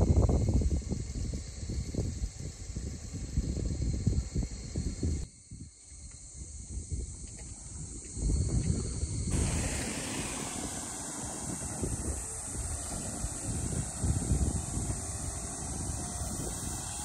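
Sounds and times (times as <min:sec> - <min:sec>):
steady hiss: 0:00.0 - 0:17.0
wind buffeting microphone: 0:00.0 - 0:17.0.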